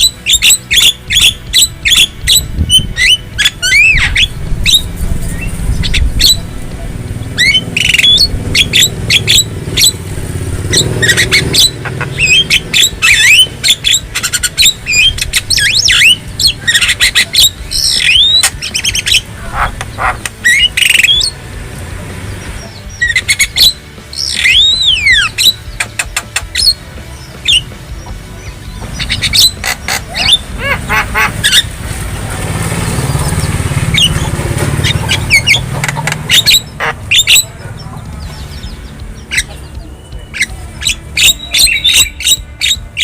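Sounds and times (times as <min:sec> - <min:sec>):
myna squawking and whistling: 0:00.0 - 0:06.5, 0:07.4 - 0:10.0, 0:10.7 - 0:21.4, 0:22.6 - 0:26.8, 0:28.9 - 0:31.7, 0:33.4 - 0:37.5, 0:39.3 - 0:43.0.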